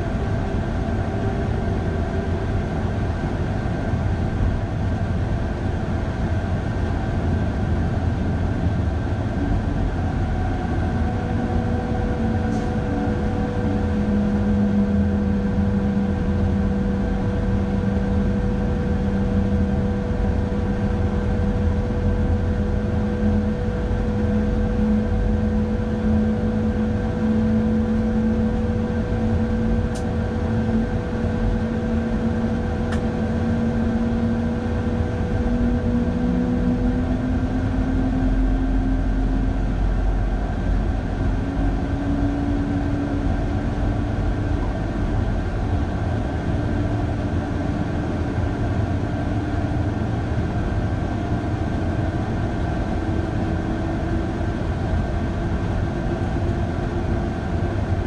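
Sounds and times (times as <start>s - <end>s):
low motor hum: 0.0s - 58.0s.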